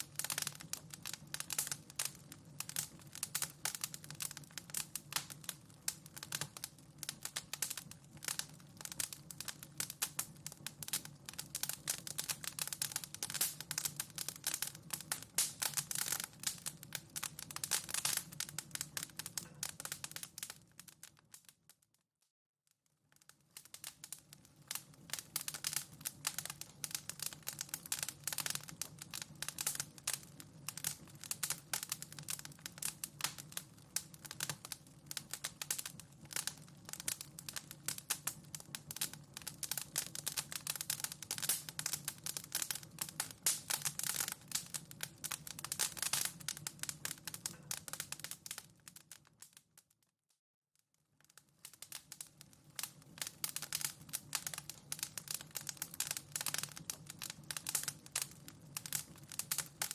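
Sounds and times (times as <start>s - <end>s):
wood fire crackling: 0.0s - 21.9s, 23.0s - 49.9s, 51.2s - 59.9s.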